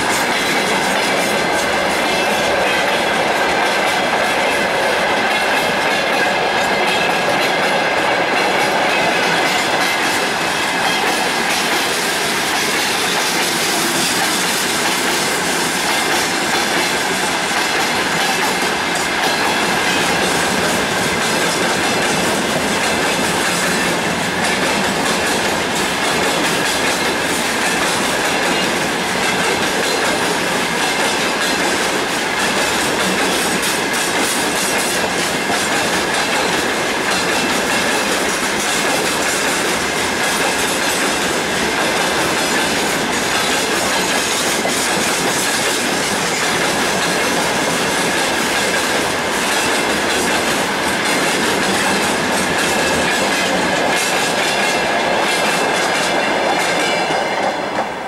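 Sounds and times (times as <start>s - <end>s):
train wheels clattering: 0.0s - 58.0s.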